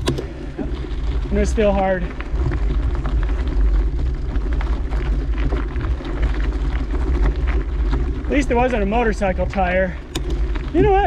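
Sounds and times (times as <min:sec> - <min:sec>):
clicks and rattles: 0:00.0 - 0:11.0
low rumble: 0:00.0 - 0:11.0.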